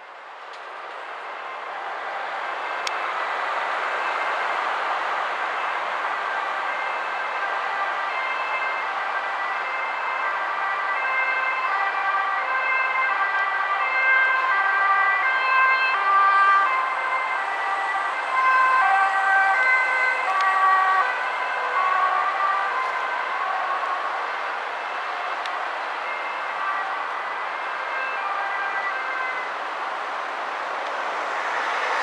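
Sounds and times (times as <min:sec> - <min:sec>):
motorway traffic: 0:00.0 - 0:32.0
ambulance two-tone siren: 0:01.3 - 0:32.0.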